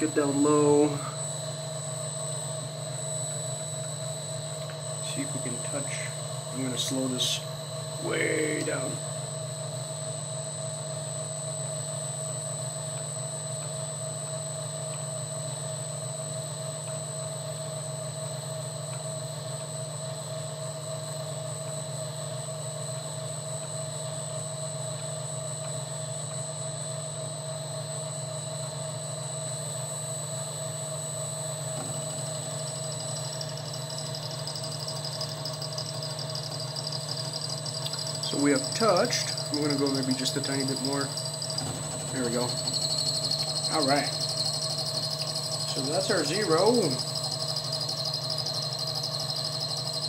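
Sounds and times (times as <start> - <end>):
milling machine hum and whine: 0.0 - 50.0.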